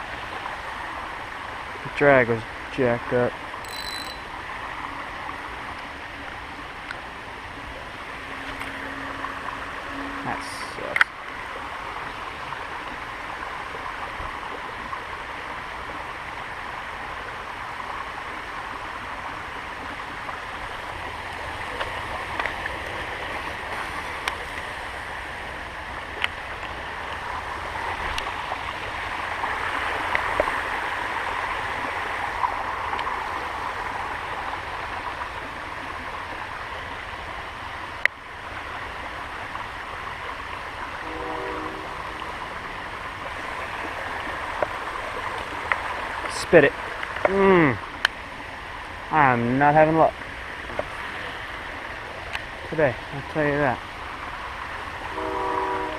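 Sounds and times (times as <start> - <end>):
creek water running: 0.0 - 55.9.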